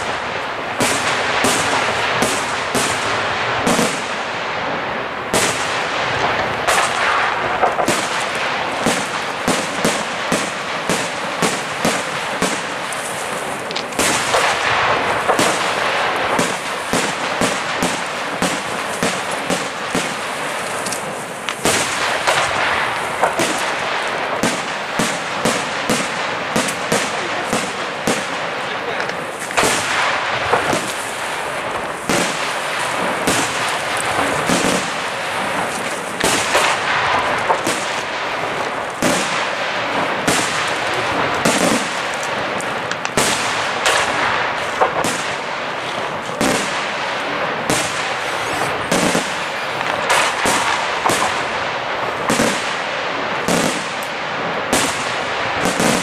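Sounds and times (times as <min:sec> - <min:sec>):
firework crackling: 0:00.0 - 0:56.0
firework shells bursting: 0:00.0 - 0:56.0.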